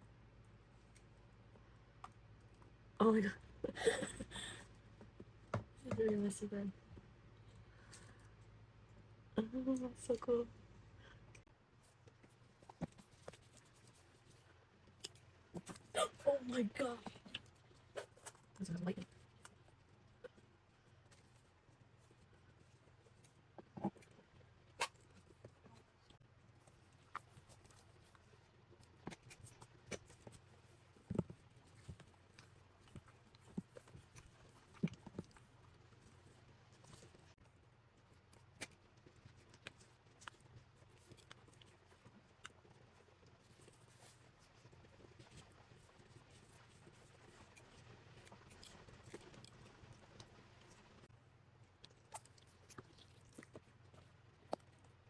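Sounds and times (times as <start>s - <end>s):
low room hum: 0.0s - 55.0s.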